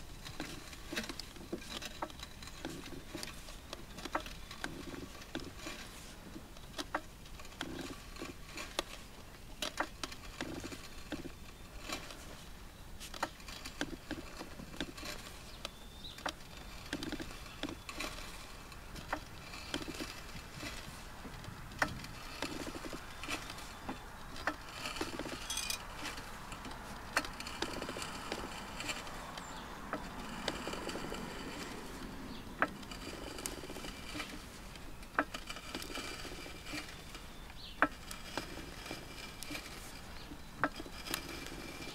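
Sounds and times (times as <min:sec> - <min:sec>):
hydraulic jack pumping: 0:00.1 - 0:41.9.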